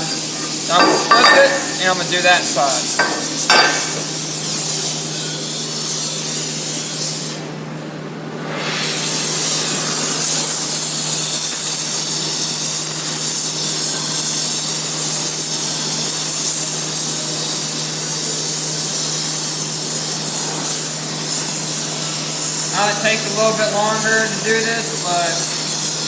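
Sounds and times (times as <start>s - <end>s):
propane torch hissing: 0.0s - 7.5s, 8.5s - 26.0s.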